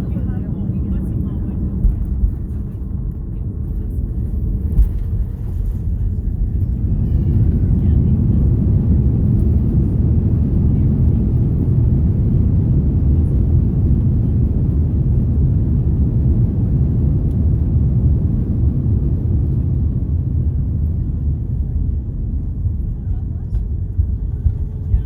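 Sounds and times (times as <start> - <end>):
airliner engines and wheels rumbling: 0.0 - 25.0.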